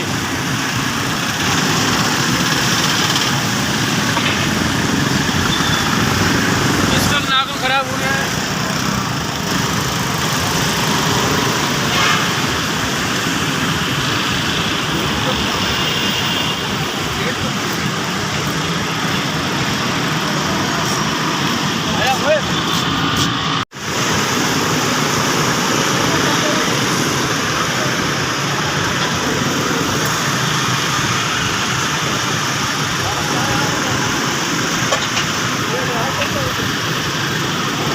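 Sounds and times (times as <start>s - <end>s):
heavy rain: 0.0s - 37.9s
loud hiss: 0.0s - 37.9s
vehicle road noise rush: 0.0s - 37.9s.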